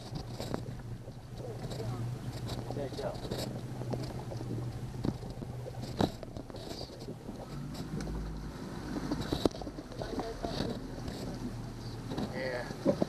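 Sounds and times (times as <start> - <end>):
boat motor humming: 0.0 - 13.0
water: 0.0 - 13.0
wind: 0.0 - 13.0.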